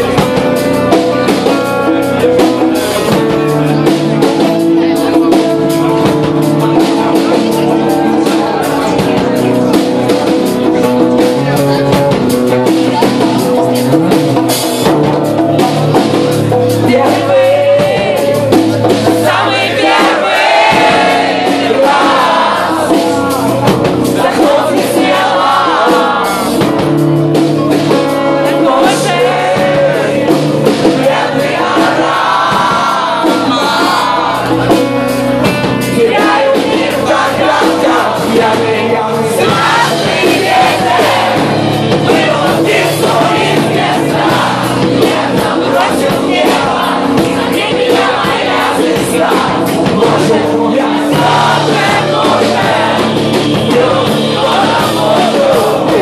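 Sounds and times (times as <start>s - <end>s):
acoustic rock band playing: 0.0s - 56.0s.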